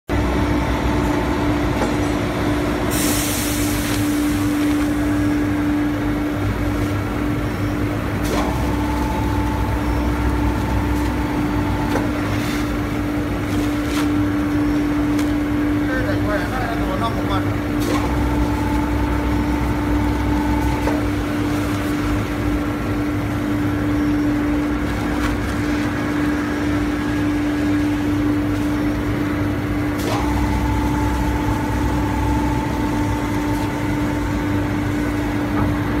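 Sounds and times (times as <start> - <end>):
machine motor hum: 0.1 - 36.0.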